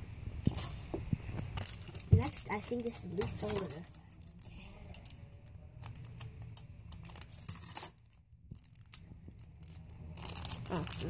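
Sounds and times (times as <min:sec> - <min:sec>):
foil bag crackling and rustling: 0:00.5 - 0:11.0.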